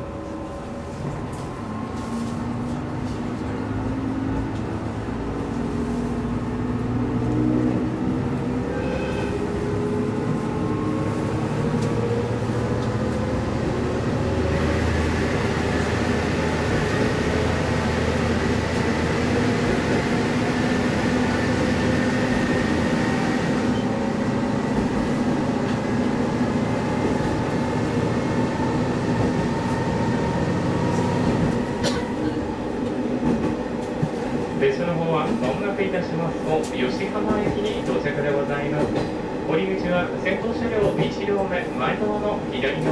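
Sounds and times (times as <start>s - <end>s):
rail rumble: 0.0s - 42.9s
railcar engine drone: 0.0s - 42.9s.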